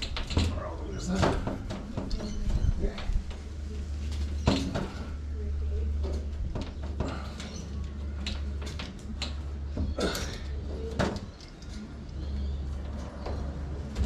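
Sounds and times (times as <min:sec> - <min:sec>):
frame knocks and rattling: 0:00.0 - 0:12.0.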